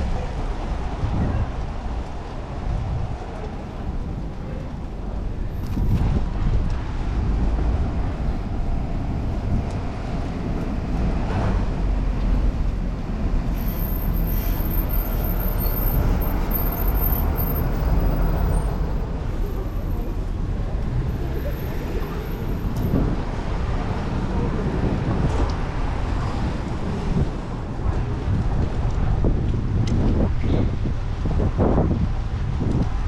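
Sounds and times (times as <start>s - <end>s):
city traffic rumble: 0.0s - 33.0s.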